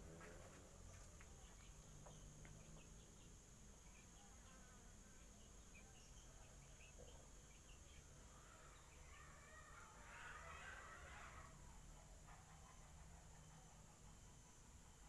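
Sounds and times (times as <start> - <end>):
faint chirps: 0.0 - 15.0
high insect drone: 0.0 - 15.0.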